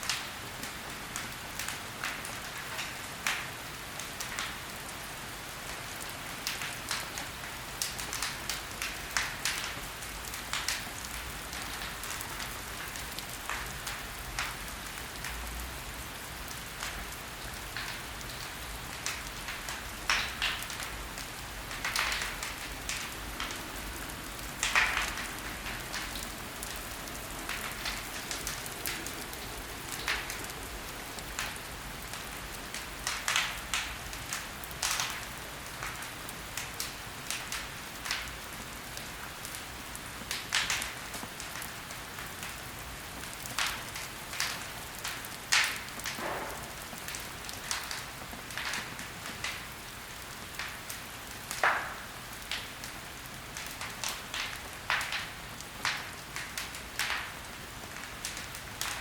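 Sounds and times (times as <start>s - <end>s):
fire crackling and popping: 0.0s - 59.0s
fire hissing softly: 0.0s - 59.0s.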